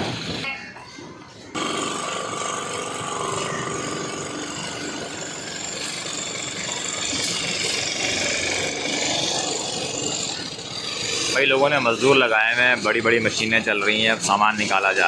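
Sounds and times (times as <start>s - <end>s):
busy street noise: 0.0s - 15.0s
motor engine running: 1.2s - 15.0s.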